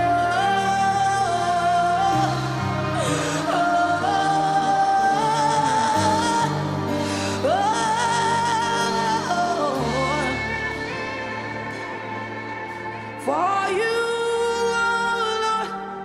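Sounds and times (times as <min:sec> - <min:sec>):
gospel singing: 0:00.0 - 0:16.0.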